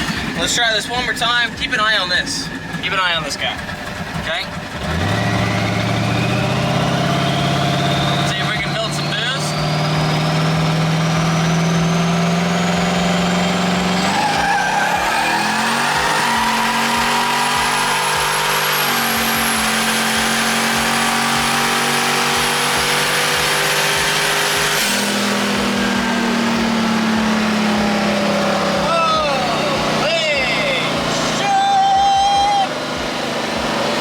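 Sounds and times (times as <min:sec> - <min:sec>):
car engine revving through gears: 0:00.0 - 0:34.0
high turbo whistle: 0:05.1 - 0:08.4, 0:09.5 - 0:33.6.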